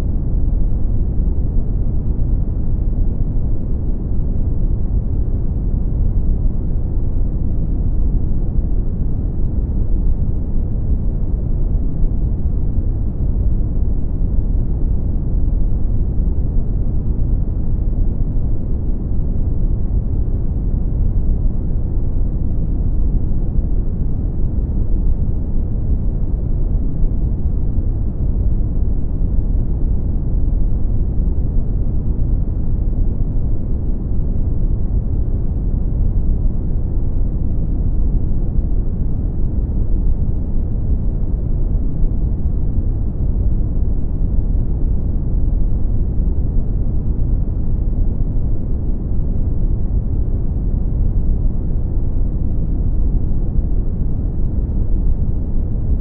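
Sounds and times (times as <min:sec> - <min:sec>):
deep rumbling brown noise: 0:00.0 - 0:56.0.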